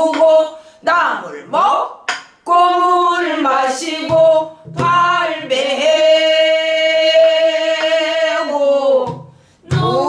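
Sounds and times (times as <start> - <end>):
woman singing: 0.0 - 1.8, 2.5 - 10.0.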